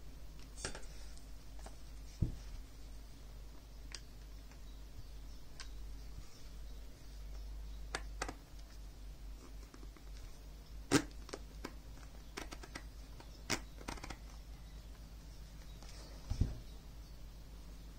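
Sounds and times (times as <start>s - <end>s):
faint steady low hum: 0.0s - 17.9s.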